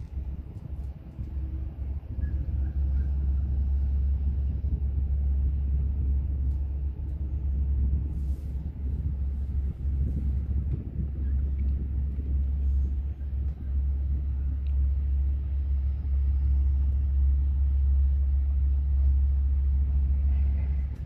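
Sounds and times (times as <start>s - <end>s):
train deep rumble: 0.0s - 21.0s.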